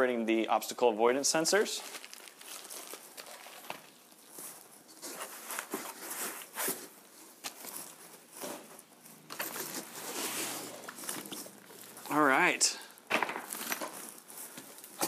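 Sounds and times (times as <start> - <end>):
packaging rustling: 1.6 - 15.0.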